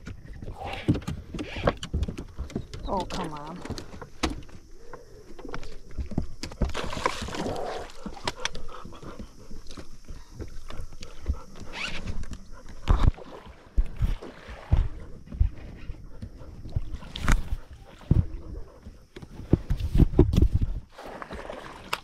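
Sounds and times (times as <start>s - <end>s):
knocks and clatter on boat: 0.0s - 7.3s, 8.0s - 22.0s.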